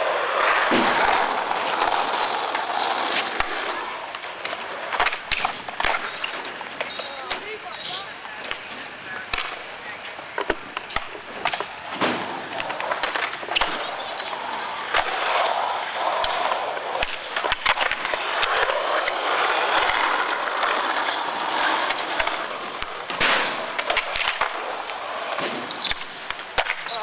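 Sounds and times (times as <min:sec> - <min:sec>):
skateboard clacking: 0:00.0 - 0:27.0
skateboard wheels rolling on concrete: 0:00.0 - 0:27.0.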